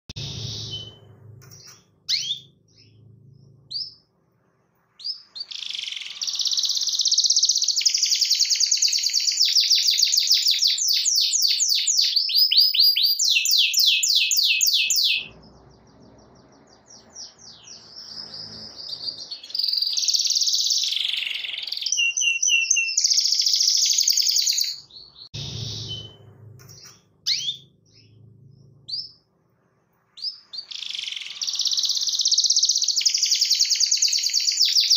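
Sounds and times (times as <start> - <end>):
bird chirps: 0.1 - 4.2, 4.9 - 29.3, 30.1 - 34.9
canary singing trills: 0.1 - 4.2, 5.0 - 29.3, 30.2 - 34.9.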